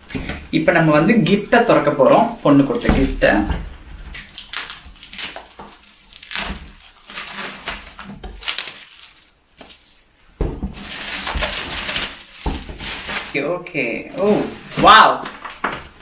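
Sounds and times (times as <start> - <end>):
plastic gift wrap crinkling: 0.0 - 16.0.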